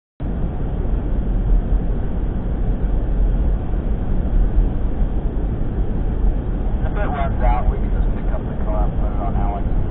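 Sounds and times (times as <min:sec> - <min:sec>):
vehicle engine and tyre rumble: 0:00.2 - 0:09.9.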